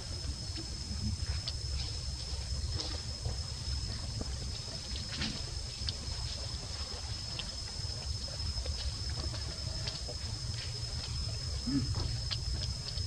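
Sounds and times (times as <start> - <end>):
faint rustles and ticks: 0.0 - 13.0
steady low rumble: 0.0 - 13.0.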